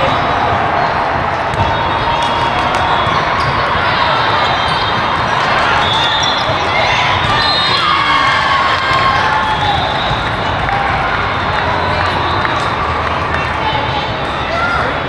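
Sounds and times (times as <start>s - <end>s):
crowd chatter in a gym: 0.0s - 15.0s.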